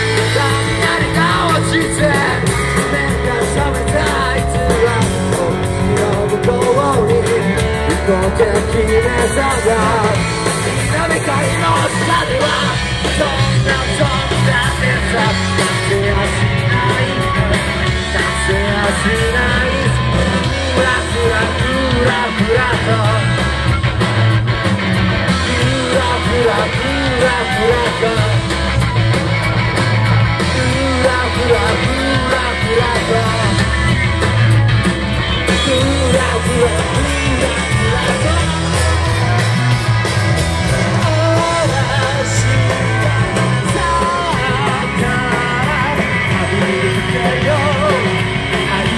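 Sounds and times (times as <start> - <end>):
man singing: 0.0 - 23.7, 25.3 - 28.8, 30.0 - 34.3, 35.4 - 39.7, 40.6 - 48.9
live rock band playing: 0.0 - 48.9.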